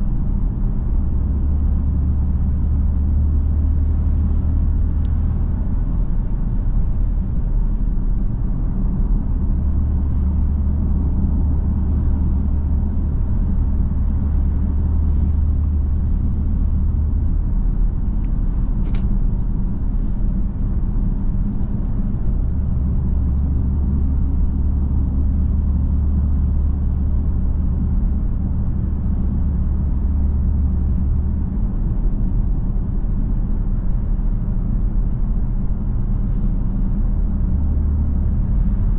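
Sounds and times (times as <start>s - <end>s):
car engine cruising drone: 0.0s - 38.9s
road noise: 0.0s - 38.9s.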